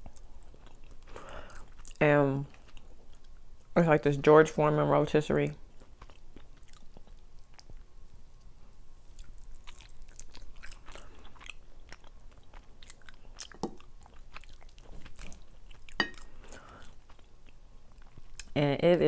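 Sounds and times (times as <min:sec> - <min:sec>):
person chewing chicken: 0:00.0 - 0:03.7, 0:05.8 - 0:18.6.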